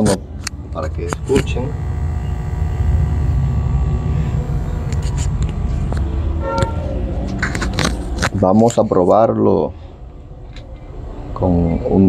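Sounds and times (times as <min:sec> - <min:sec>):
inverter buzzing hum: 0:00.0 - 0:12.0.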